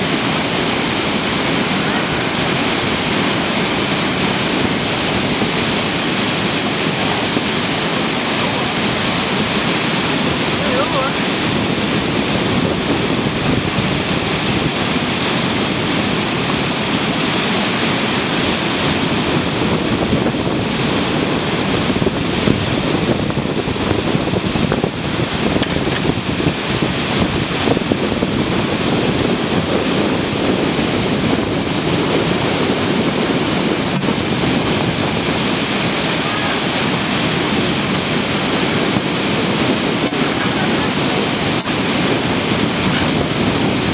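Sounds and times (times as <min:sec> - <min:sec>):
whitewater rushing over weir: 0:00.0 - 0:43.9.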